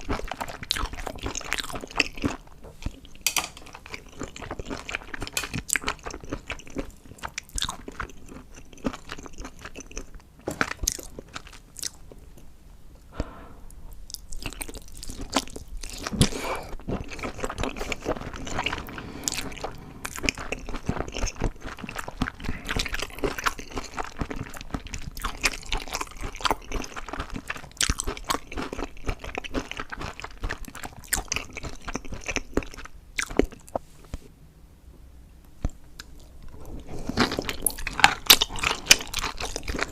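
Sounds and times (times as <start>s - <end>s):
crunching and chewing food: 0.0s - 12.5s, 13.9s - 33.8s, 35.6s - 39.9s.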